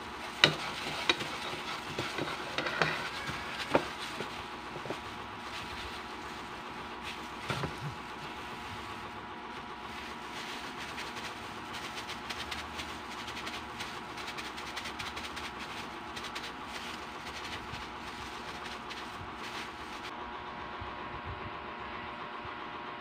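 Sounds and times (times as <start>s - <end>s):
plastic crackling: 0.0s - 20.1s
steady background hum: 0.0s - 23.0s.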